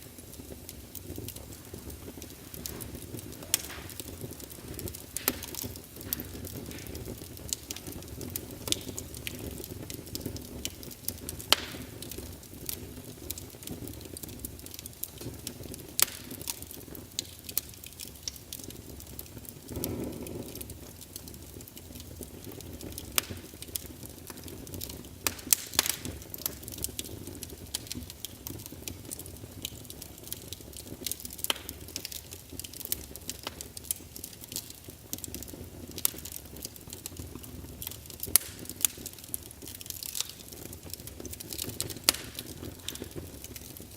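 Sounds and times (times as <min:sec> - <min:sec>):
low rush of flame: 0:00.0 - 0:43.9
wood fire crackling and popping: 0:00.0 - 0:43.9.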